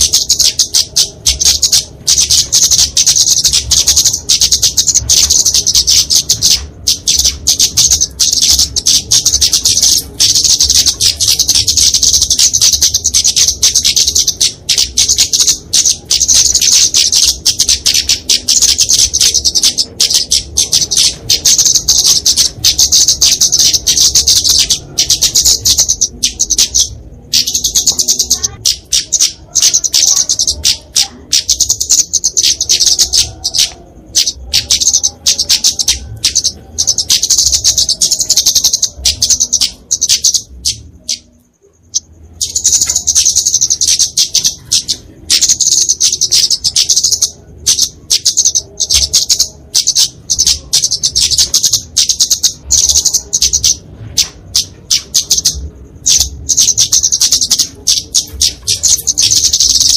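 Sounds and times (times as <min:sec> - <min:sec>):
bird high-pitched sharp chips: 0:00.0 - 0:59.9.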